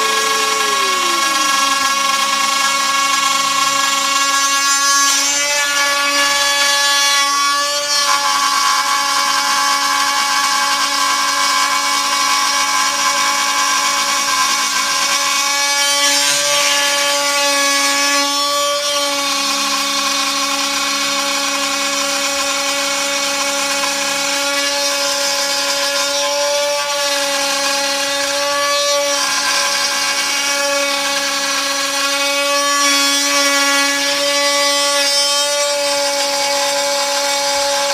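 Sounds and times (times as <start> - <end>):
bit cutting wood: 0.0 - 37.9
router spindle high whine: 0.0 - 37.9.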